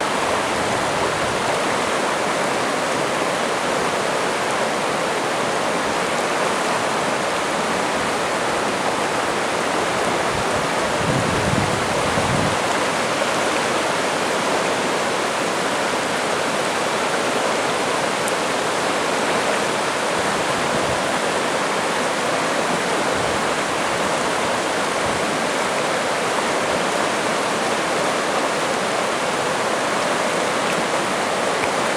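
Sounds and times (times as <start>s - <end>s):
river rushing: 0.0s - 31.9s.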